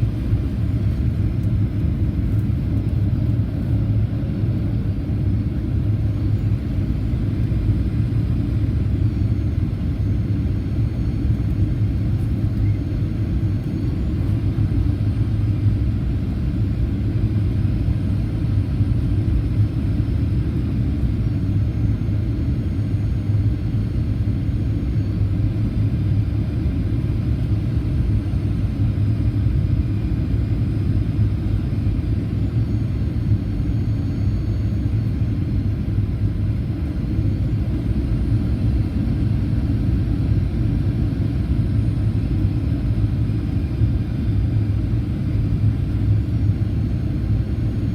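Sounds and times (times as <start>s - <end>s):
faint high whine: 0.0s - 47.9s
jet engine rumble in cabin: 0.0s - 47.9s.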